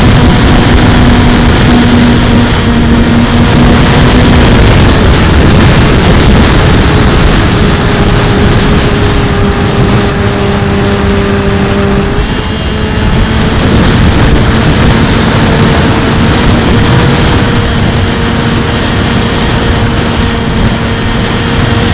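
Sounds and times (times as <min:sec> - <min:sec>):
electric motor and propeller whine: 0:00.0 - 0:21.9
heavy wind noise: 0:00.0 - 0:21.9.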